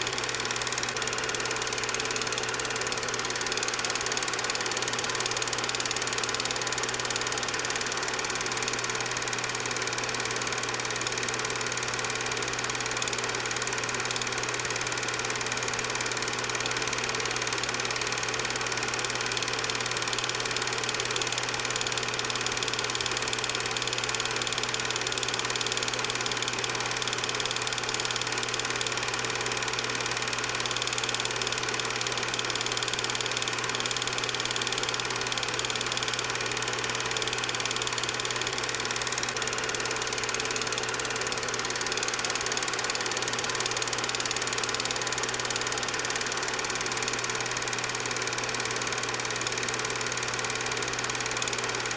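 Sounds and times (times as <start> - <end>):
film projector humming: 0.0 - 51.9.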